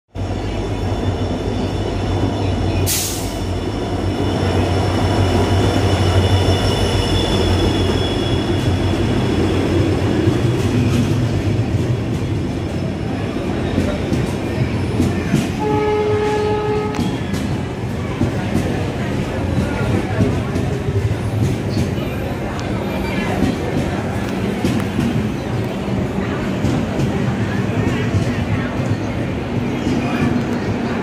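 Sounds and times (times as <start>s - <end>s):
train wheels rumbling on rail: 0.1s - 31.0s.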